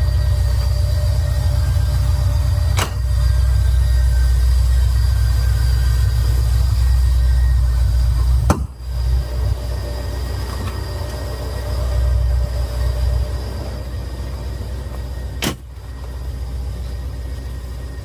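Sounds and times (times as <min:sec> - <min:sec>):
car engine rumble: 0:00.0 - 0:18.0.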